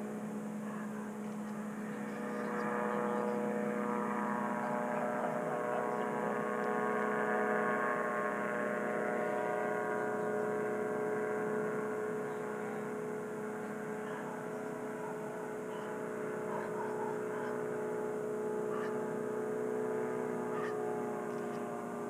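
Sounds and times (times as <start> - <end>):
small engine droning: 0.0 - 22.0.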